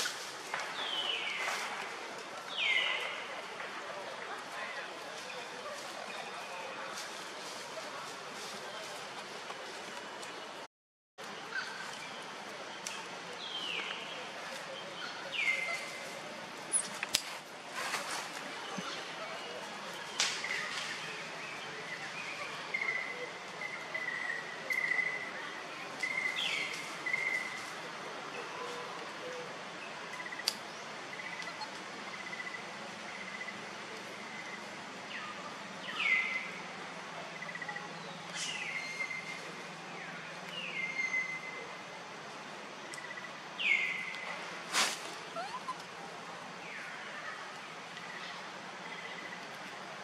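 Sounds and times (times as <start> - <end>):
outdoor background hiss: 0.0 - 50.0.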